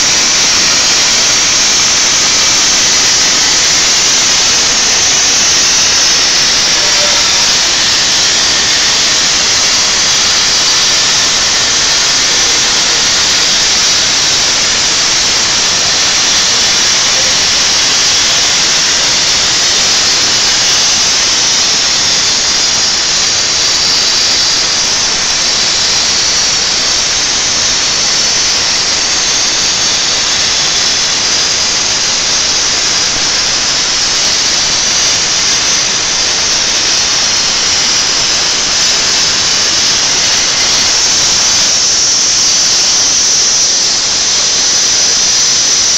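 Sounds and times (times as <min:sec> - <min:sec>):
plasma torch hissing: 0:00.0 - 0:45.9.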